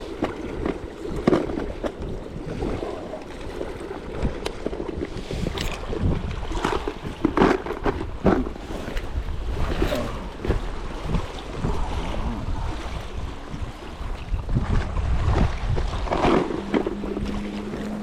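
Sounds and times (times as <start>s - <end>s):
water sloshing and splashing: 0.0s - 18.0s
wind rumbling on microphone: 0.0s - 18.0s.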